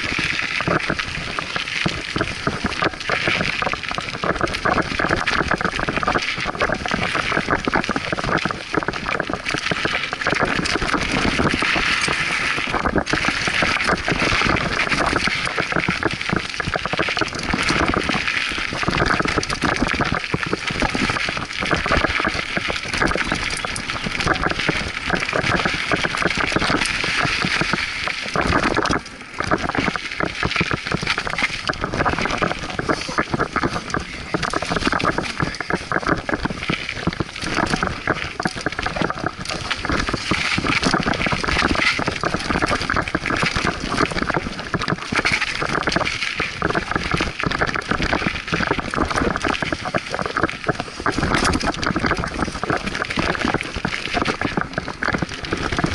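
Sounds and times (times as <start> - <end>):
bike rattling over bumps: 0.0 - 55.9
bike tyre rolling noise: 0.0 - 55.9.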